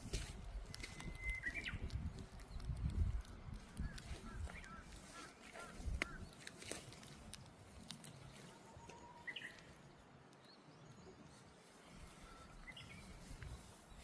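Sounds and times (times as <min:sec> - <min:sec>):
bird chirps: 0:00.7 - 0:03.0, 0:03.6 - 0:07.1, 0:07.9 - 0:14.0.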